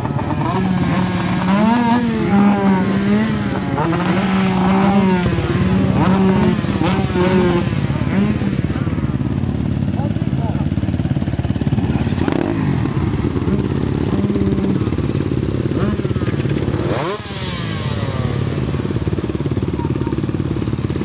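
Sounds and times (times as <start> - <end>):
motocross bike engines blipping: 0.0 - 21.0.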